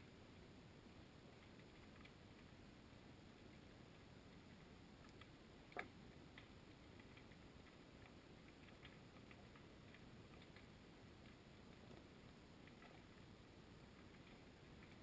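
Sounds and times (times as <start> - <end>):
small ticks: 1.2 - 15.0.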